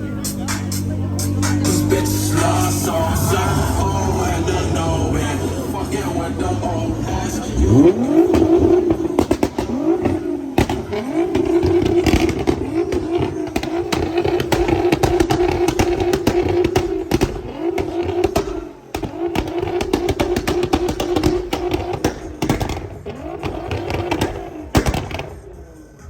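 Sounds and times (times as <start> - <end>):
exhaust crackles and pops: 0.0 - 25.7
car engine revving: 0.0 - 26.0.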